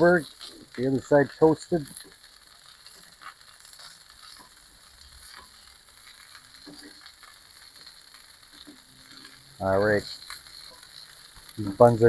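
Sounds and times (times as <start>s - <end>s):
fat sizzling on hot iron: 0.0s - 12.0s.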